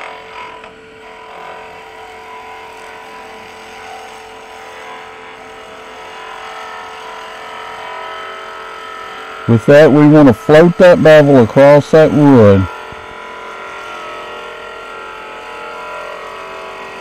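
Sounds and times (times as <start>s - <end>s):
wood lathe whine: 0.0s - 17.0s.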